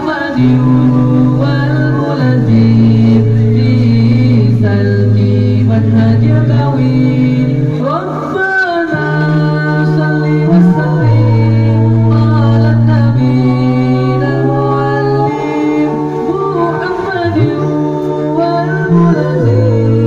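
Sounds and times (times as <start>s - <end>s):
male vocal trio singing a cappella: 0.0s - 20.0s.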